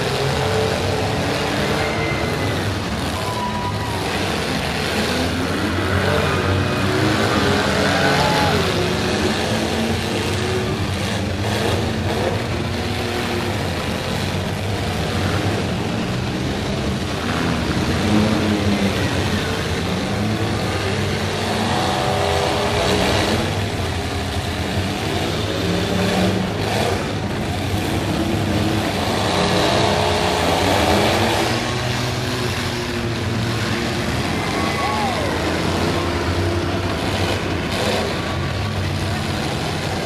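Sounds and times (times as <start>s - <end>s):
car engines revving hard: 0.0s - 40.0s.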